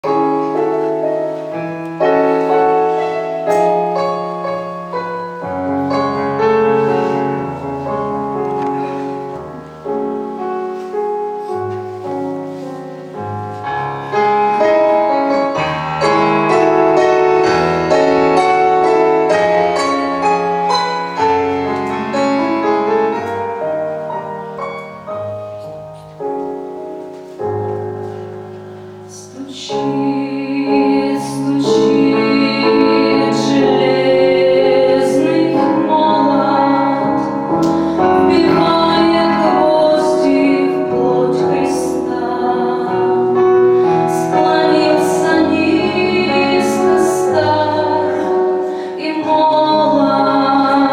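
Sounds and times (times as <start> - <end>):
piano music: 0.0 - 50.9.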